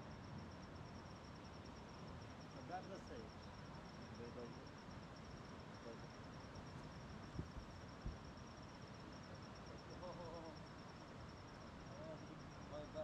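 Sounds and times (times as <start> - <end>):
cricket chirping: 0.0 - 13.0
faint background noise: 0.0 - 13.0.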